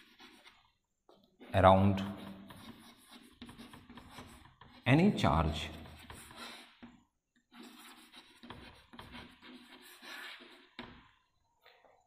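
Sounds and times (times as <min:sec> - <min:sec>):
chalk scratching on blackboard: 0:00.0 - 0:00.6, 0:02.0 - 0:11.0.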